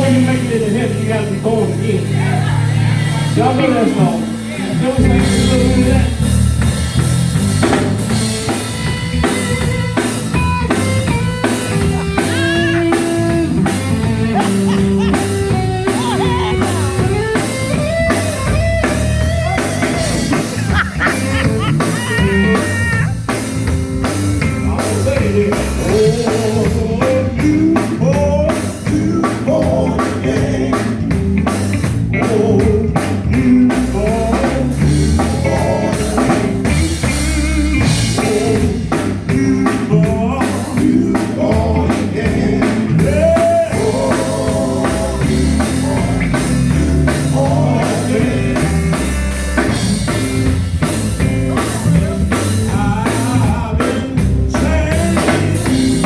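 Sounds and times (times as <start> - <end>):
voices singing: 0.0 - 6.4, 7.6 - 56.0
drum kit beat: 0.0 - 56.0
gospel band playing: 0.0 - 56.0.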